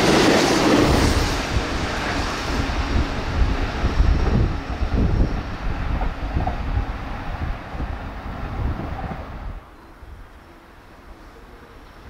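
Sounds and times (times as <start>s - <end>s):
train wheels rumbling on rails: 0.0s - 9.7s.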